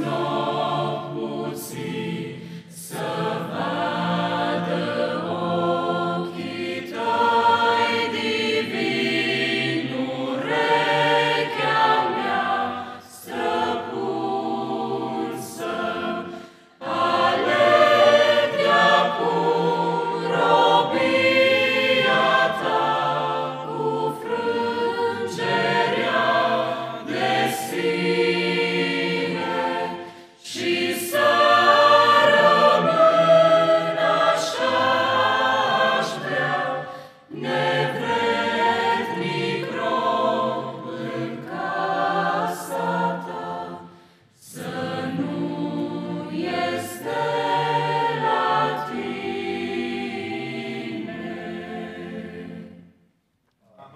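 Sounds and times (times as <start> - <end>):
choir singing a hymn: 0.0 - 53.1.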